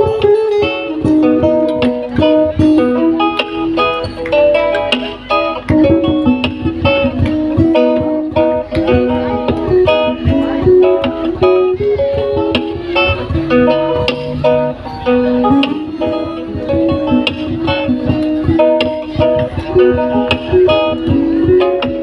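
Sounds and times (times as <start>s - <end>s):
acoustic guitar duet: 0.0s - 22.0s.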